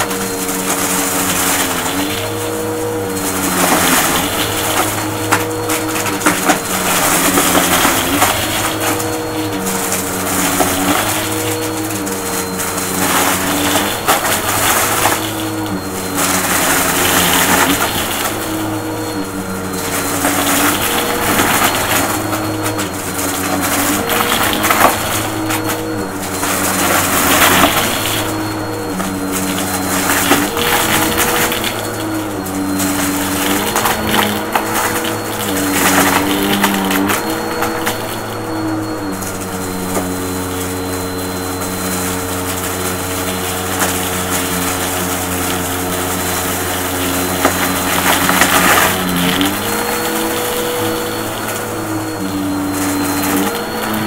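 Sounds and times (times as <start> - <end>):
vacuum crackling over debris: 0.0 - 54.0
vacuum motor hum: 0.0 - 54.0.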